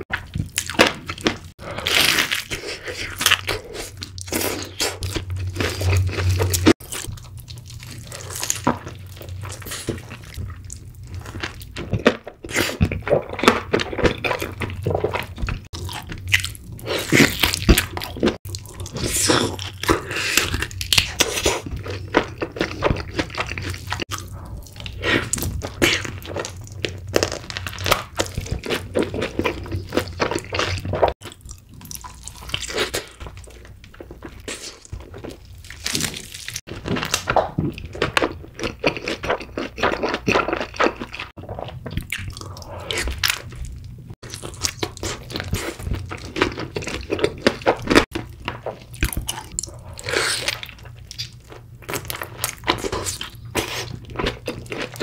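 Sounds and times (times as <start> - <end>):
crunchy eating and chewing: 0.0 - 55.0.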